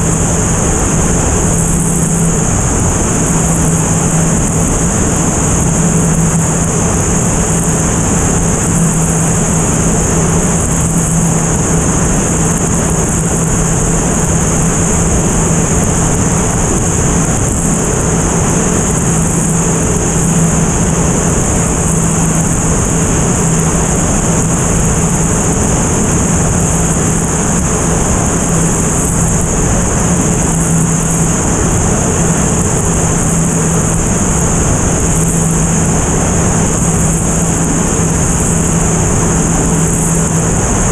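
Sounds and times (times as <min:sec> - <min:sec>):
high whine: 0:00.0 - 0:40.9
propeller airplane engine drone: 0:00.0 - 0:40.9.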